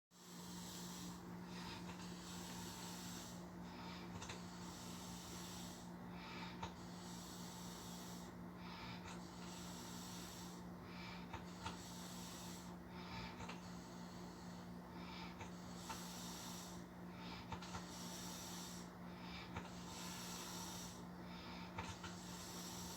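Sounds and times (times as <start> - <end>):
man snoring: 0.2 - 18.9, 19.5 - 22.9.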